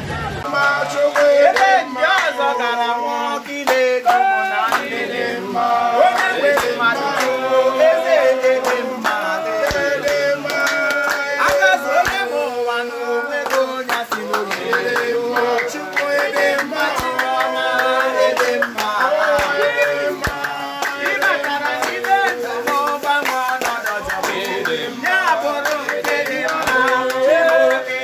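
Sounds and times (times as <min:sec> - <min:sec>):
percussion: 0:00.0 - 0:28.0
group singing: 0:00.3 - 0:28.0
rhythmic hand clapping: 0:00.4 - 0:28.0.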